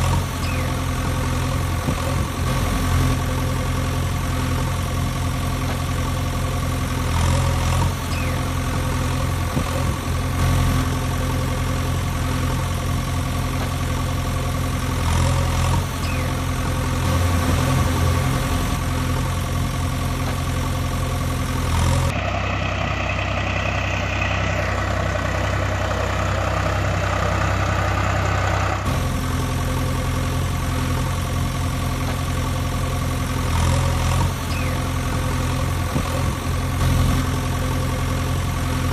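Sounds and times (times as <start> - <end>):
heavy engine idling: 0.0 - 38.9.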